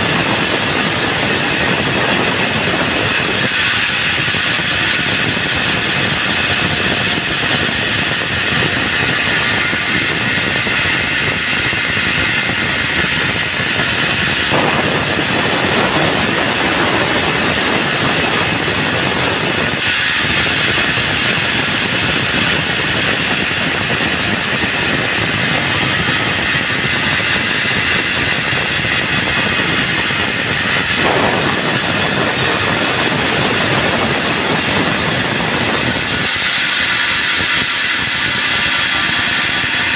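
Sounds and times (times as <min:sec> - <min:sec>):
band saw cutting a log: 0:00.0 - 0:39.9.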